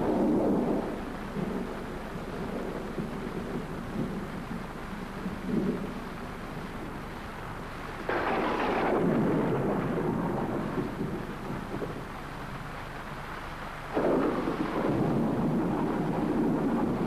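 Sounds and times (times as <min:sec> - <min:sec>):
thunder rumbling: 0:00.0 - 0:13.1, 0:13.9 - 0:17.0
rain hissing: 0:00.0 - 0:17.0.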